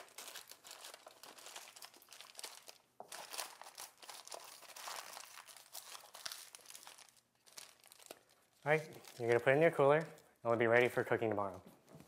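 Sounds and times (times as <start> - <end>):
aluminium foil crinkling: 0.0 - 11.6.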